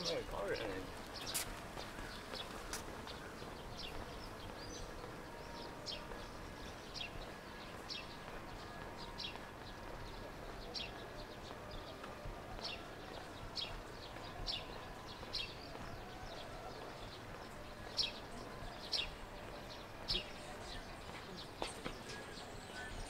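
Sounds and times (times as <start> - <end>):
faint background noise: 0.0 - 23.0.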